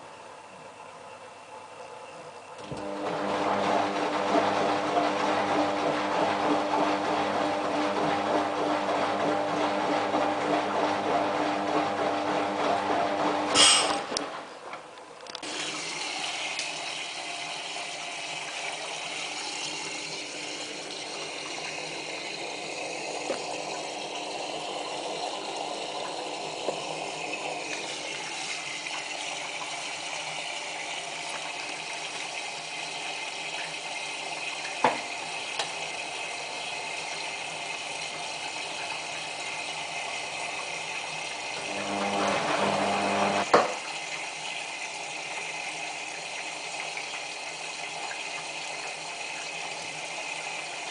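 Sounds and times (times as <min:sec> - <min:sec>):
washing machine water rushing in: 0:00.0 - 0:50.9.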